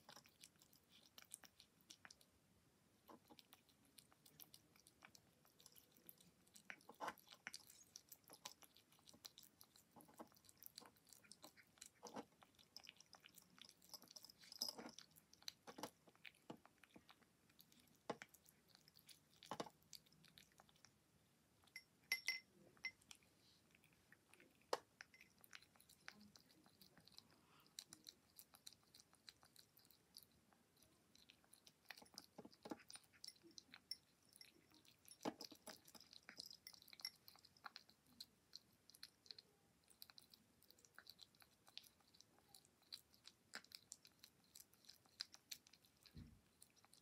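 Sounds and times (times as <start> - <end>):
kitten chewing food: 0.0 - 47.0.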